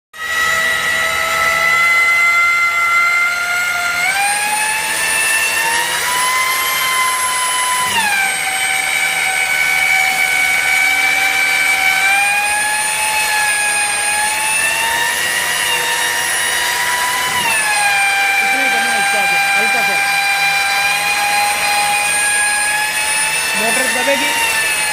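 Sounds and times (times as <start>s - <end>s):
electric motor high-pitched whine: 0.2s - 24.9s.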